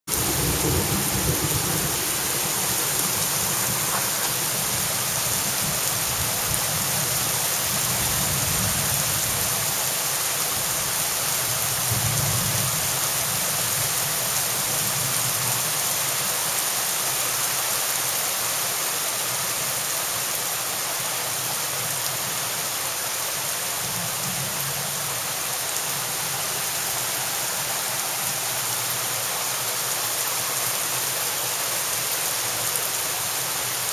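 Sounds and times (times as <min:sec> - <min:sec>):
heavy rain on pavement and cars: 0:00.1 - 0:33.9.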